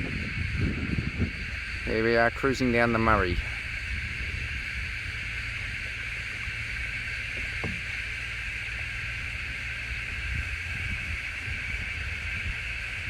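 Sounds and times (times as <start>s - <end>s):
high-pitched insect chorus: 0.0s - 13.0s
wind rumble on microphone: 0.0s - 13.0s.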